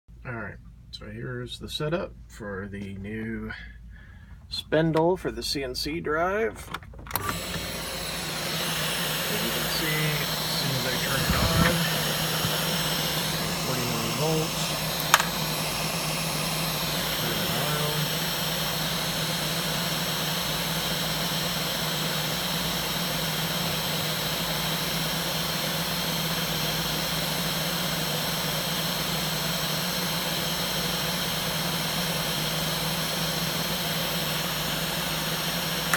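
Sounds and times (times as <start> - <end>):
spindle motor hum and whine: 7.0 - 35.9.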